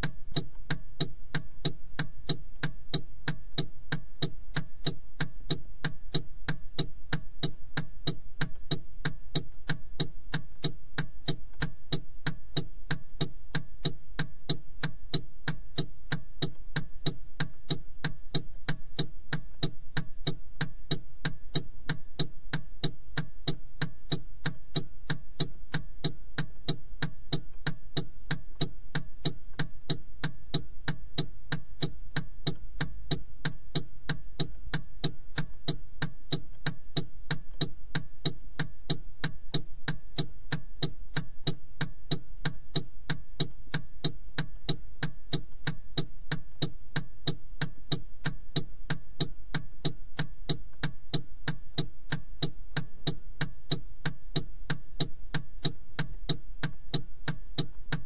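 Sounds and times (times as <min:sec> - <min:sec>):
low steady hum: 0:00.0 - 0:58.0
turn signal ticking: 0:00.0 - 0:58.0.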